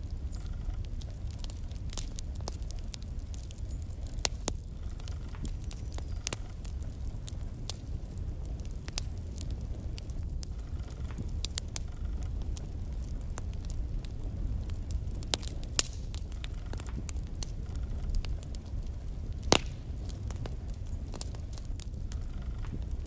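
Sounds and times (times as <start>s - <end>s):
fire low rumble: 0.0s - 23.0s
logs crackling and popping: 0.0s - 23.0s.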